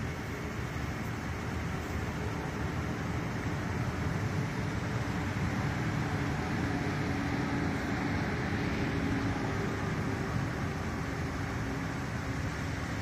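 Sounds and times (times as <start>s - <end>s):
faint hum: 0.0s - 13.0s
low outdoor rumble: 0.0s - 13.0s.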